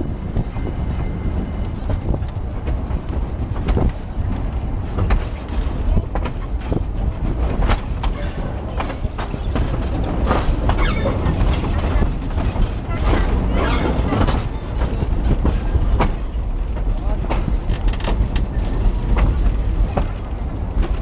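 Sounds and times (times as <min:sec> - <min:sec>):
train rumble: 0:00.0 - 0:21.0
wheels clattering over rail joints: 0:00.1 - 0:21.0.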